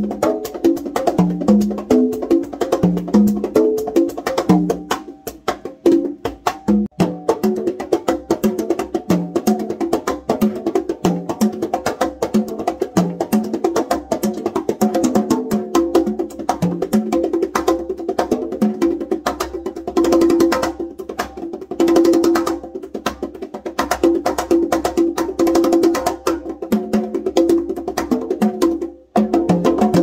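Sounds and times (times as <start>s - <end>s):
conga drums played by hand: 0.0s - 30.0s.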